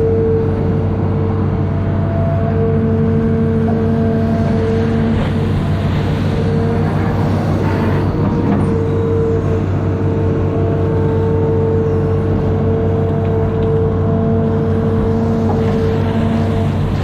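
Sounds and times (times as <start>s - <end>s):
diesel engine droning: 0.0s - 17.0s
steady whine: 0.0s - 17.0s.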